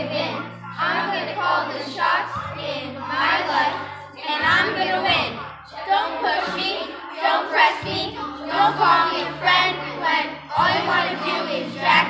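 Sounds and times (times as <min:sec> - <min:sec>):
children singing in unison: 0:00.0 - 0:12.0.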